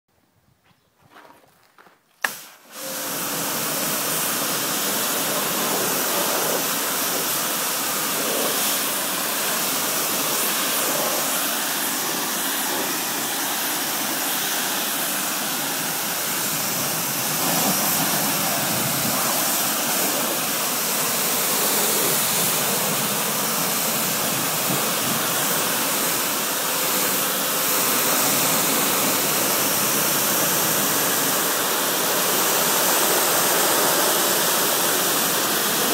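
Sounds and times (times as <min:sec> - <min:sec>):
water spraying from nozzle: 0:02.2 - 0:35.9.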